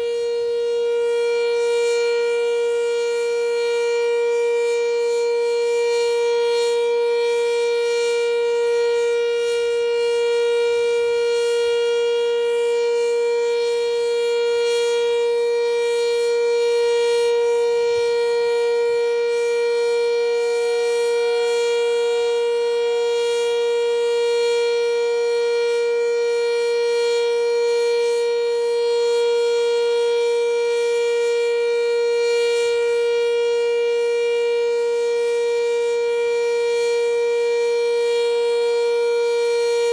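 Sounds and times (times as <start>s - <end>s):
faint second siren tone: 0.0s - 39.9s
warning siren steady tone: 0.0s - 39.9s.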